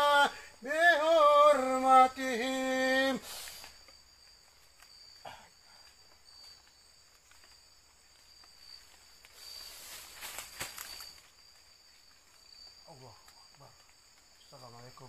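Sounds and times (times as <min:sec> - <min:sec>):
night insects calling: 0:00.0 - 0:15.0
rustle of leaves and undergrowth: 0:00.0 - 0:15.0.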